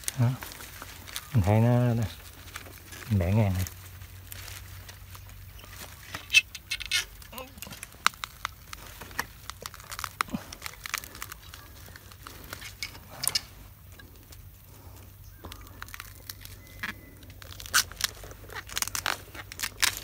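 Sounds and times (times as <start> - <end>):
dry leaves and twigs rustling: 0.0 - 20.0.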